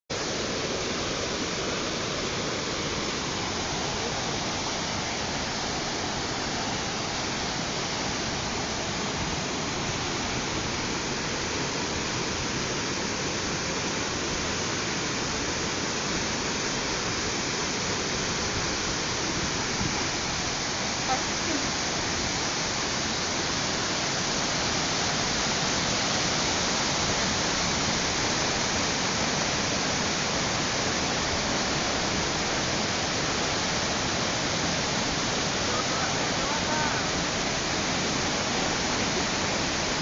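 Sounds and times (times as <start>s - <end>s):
waterfall rushing: 0.1s - 40.0s.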